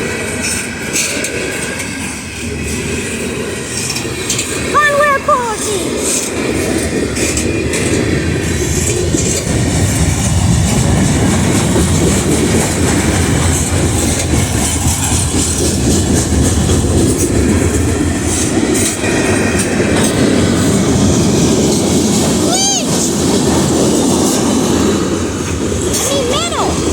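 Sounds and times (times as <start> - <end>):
train wheels rumbling on rail: 0.0 - 26.9
wheels clickety-clack on joints: 0.0 - 26.9.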